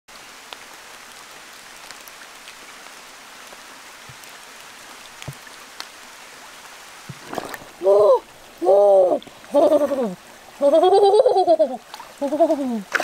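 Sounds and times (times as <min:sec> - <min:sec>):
water drops pattering on stream: 0:00.4 - 0:13.0.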